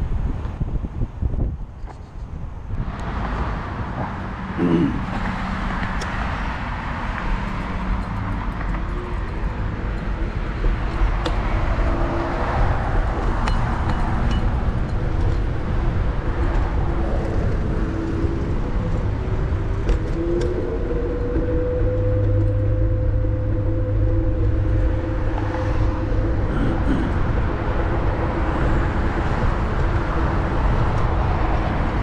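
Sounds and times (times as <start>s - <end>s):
road rumble: 0.0s - 32.0s
wind on microphone: 0.0s - 32.0s.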